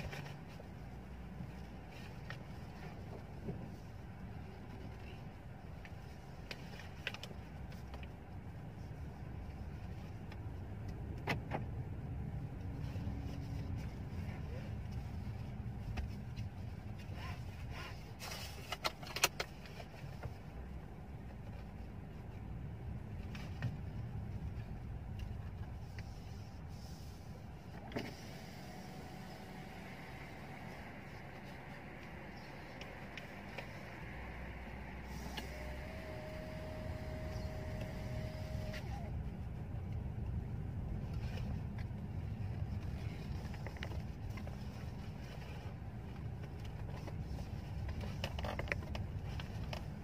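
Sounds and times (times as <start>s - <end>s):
car rumble inside cabin: 0.0s - 50.0s.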